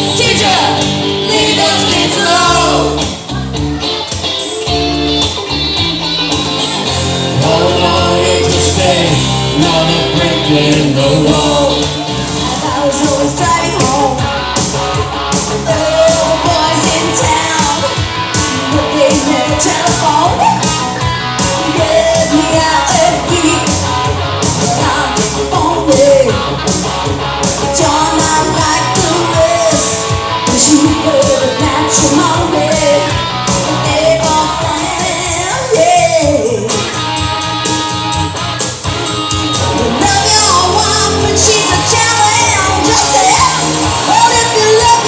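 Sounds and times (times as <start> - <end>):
live rock music with singing: 0.0 - 45.0.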